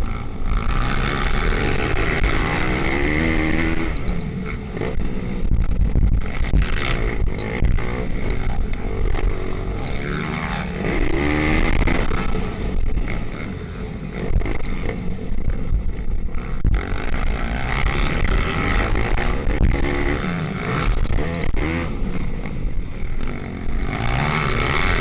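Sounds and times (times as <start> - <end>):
pit bike engines revving: 0.0 - 25.0.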